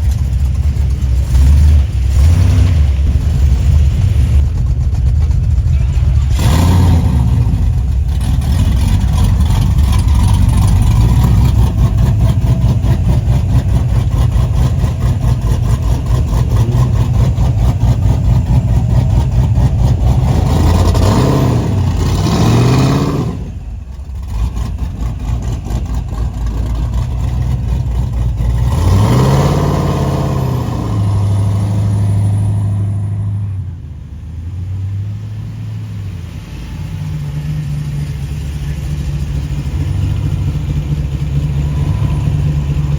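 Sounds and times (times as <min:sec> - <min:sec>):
car engine revving and idling: 0:00.0 - 0:42.9.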